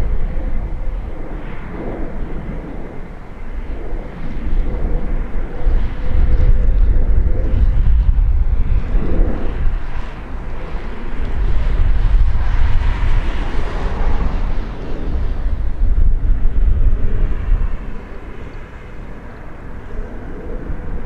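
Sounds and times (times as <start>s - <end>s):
jet engine rumble passing overhead: 0.0s - 21.0s.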